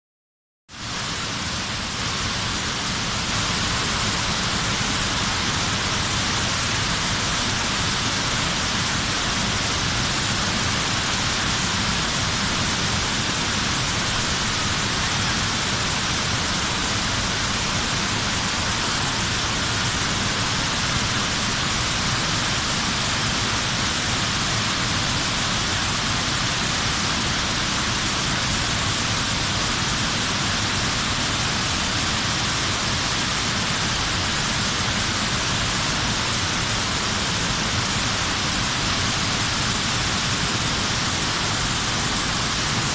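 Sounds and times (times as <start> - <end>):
waterfall and rapids rushing: 0.8 - 42.9.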